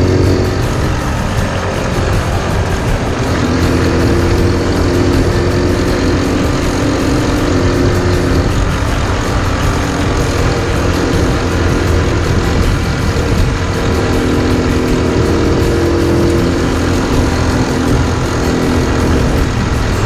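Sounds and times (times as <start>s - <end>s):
motorcycle engine running: 0.0s - 20.0s
road noise: 0.0s - 20.0s
rushing wind: 0.0s - 20.0s.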